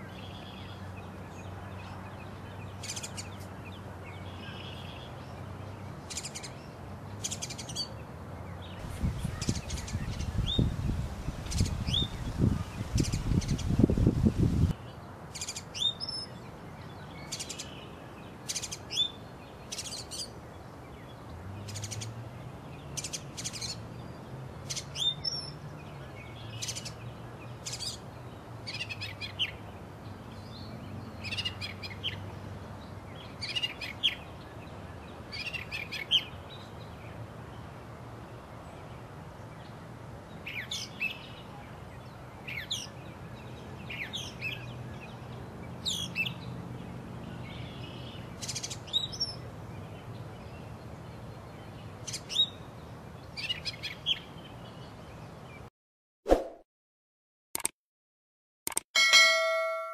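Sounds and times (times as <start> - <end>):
small birds chirping: 0.0 - 37.7, 38.6 - 55.7.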